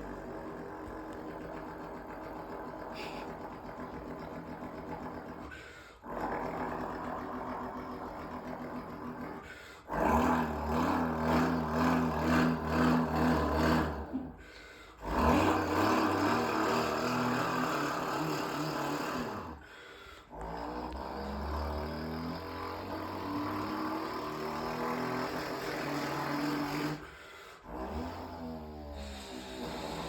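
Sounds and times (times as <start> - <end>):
motorcycle engine revving: 0.0 - 14.4, 15.0 - 19.6, 20.3 - 30.0.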